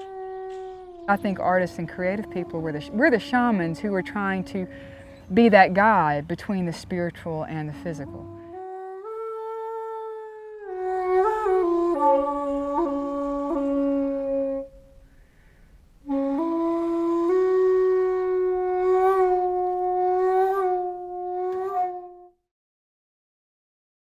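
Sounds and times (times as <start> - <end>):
breathy bamboo flute: 0.0 - 6.4, 7.4 - 22.4.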